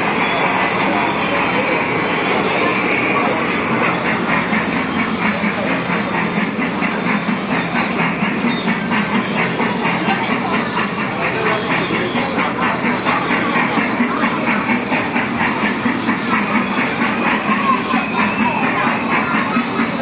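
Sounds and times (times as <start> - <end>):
kiddie ride train clicking clatter: 0.0 - 20.0.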